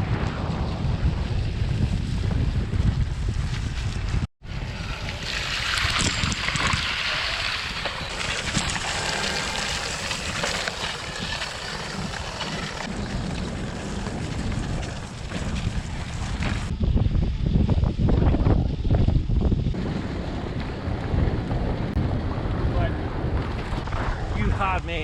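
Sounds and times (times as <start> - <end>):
bike tyres rolling through wet gravel: 0.0 - 16.7, 19.6 - 24.8
wind buffeting microphone: 0.0 - 25.0.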